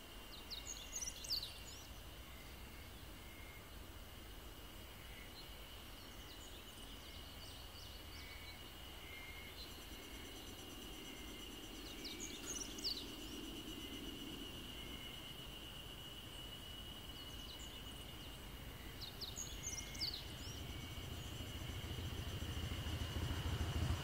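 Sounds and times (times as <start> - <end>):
faint low hum: 0.0 - 24.0
high insect drone: 0.0 - 24.0.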